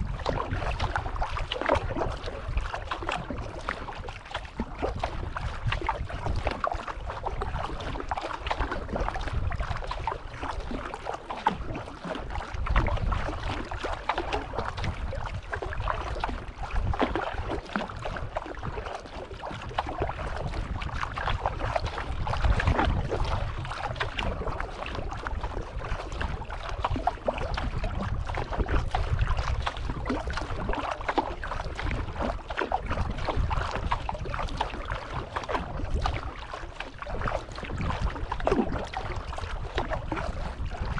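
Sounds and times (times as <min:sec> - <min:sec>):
paddle dipping and water splashing: 0:00.0 - 0:40.9
water trickling along hull: 0:00.0 - 0:40.9
wind rumble on microphone: 0:00.0 - 0:40.9.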